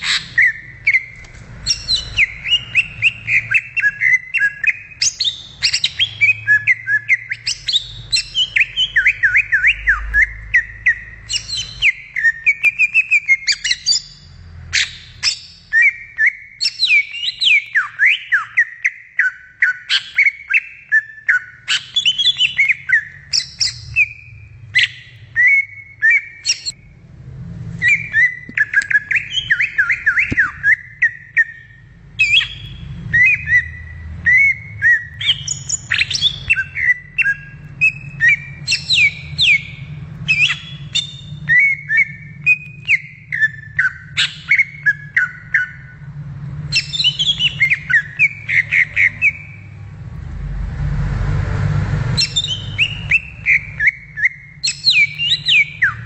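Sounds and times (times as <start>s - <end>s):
bird singing: 0.0s - 27.0s, 27.8s - 49.8s, 52.2s - 56.0s.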